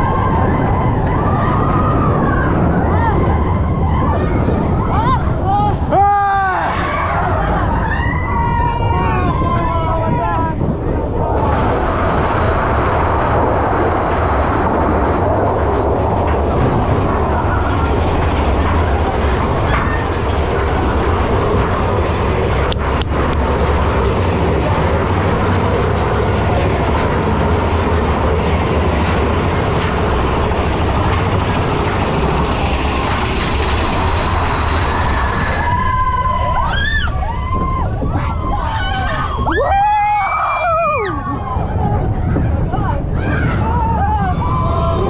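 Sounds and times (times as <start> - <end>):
roller coaster rumble and rattle: 0.0 - 45.0.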